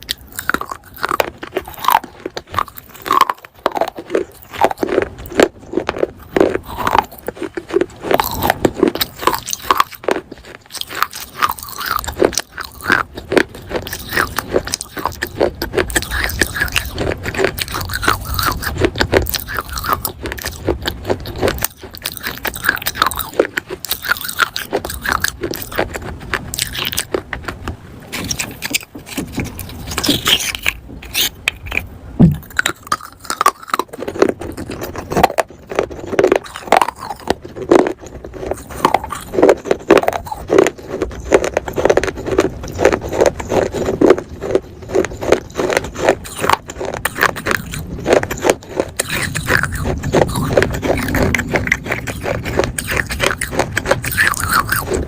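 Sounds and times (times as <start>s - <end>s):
chewing gritty clay crunches: 0.0s - 55.0s.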